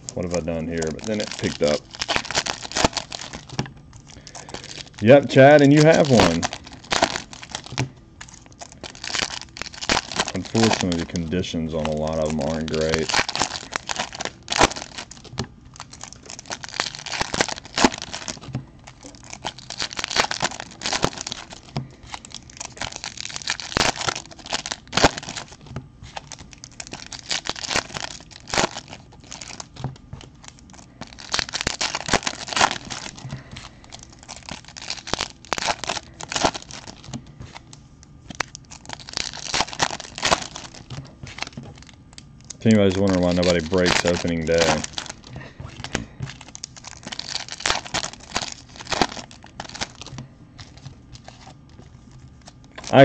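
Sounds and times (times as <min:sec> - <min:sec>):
wrappers tearing and crinkling: 0:00.0 - 0:53.0.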